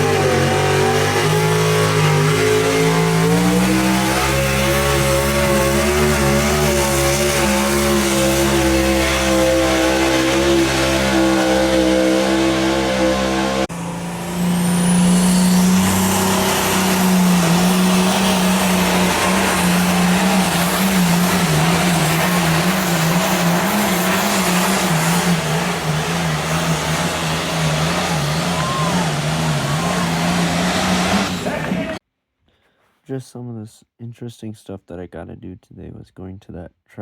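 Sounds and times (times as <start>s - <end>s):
truck engine at high revs: 0.0s - 32.0s.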